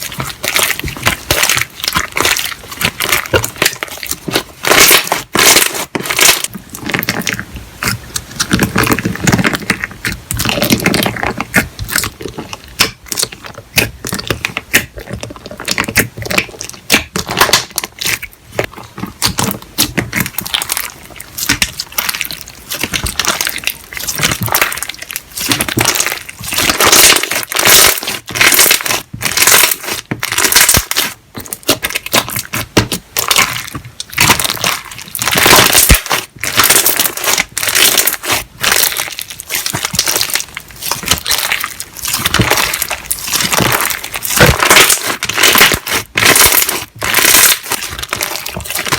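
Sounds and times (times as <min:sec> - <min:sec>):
slime squishing and popping: 0:00.0 - 0:48.9.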